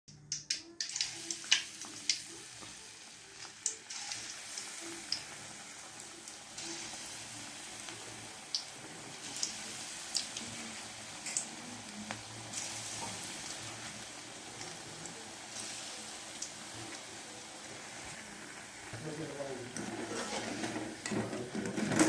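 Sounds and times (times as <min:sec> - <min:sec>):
food frying in hot oil: 0:00.4 - 0:22.0.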